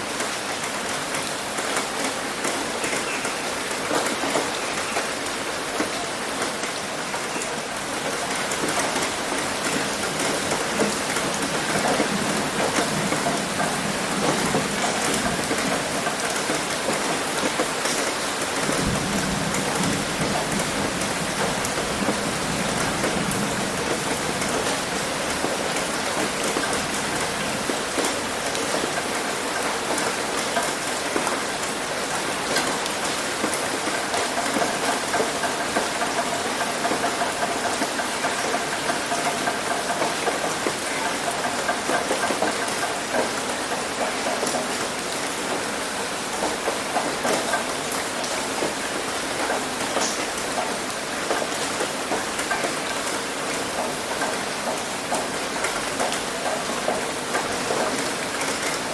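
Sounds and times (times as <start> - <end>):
heavy rain on a roof: 0.0 - 58.9.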